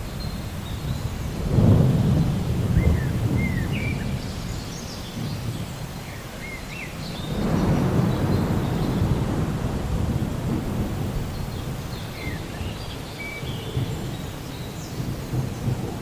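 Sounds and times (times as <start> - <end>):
steady rain: 0.0 - 16.0
thunder rumbling: 0.4 - 4.6, 7.2 - 16.0.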